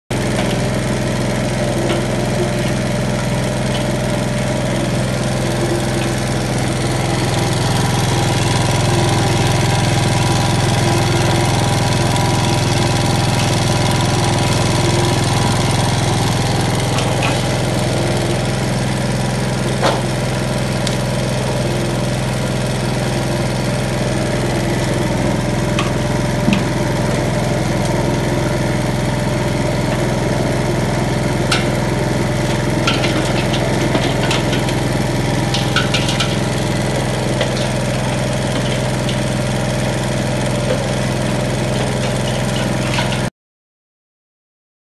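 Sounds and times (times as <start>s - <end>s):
oil press machine hum: 0.1s - 43.3s.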